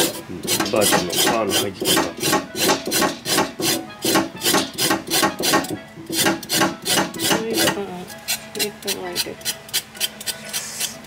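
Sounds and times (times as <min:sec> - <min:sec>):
rasping rubbing strokes: 0:00.0 - 0:08.7, 0:09.4 - 0:11.0.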